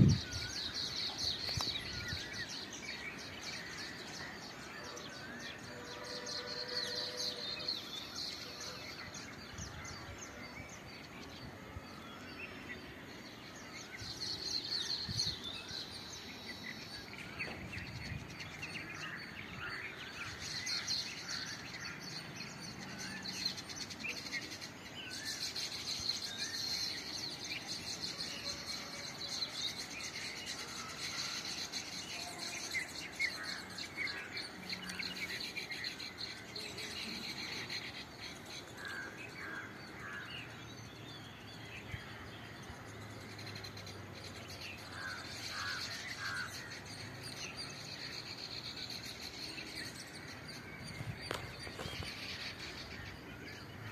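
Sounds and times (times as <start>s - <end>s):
birds chattering and chirping: 0.0s - 53.9s.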